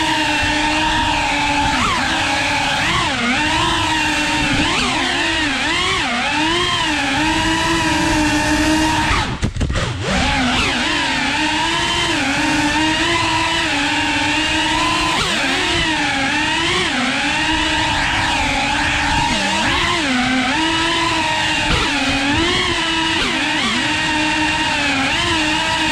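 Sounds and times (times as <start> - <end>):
drone motors whining: 0.0 - 25.9.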